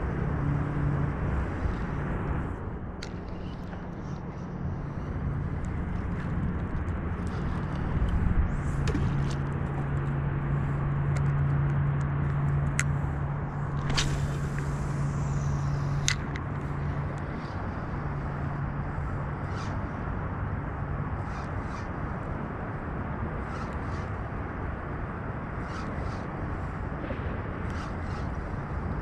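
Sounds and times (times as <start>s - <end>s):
low machine hum: 0.0s - 29.0s
outdoor background noise: 0.0s - 29.0s.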